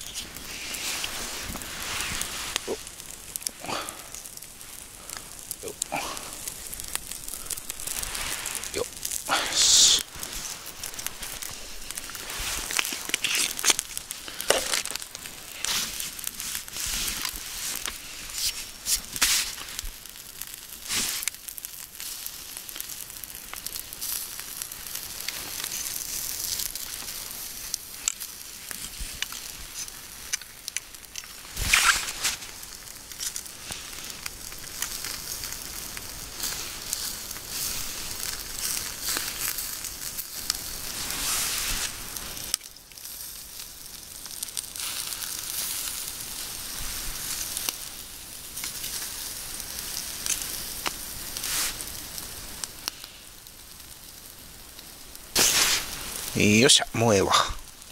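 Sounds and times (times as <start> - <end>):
coals crackling and popping: 0.0 - 57.9
steaks sizzling on embers: 0.0 - 57.9.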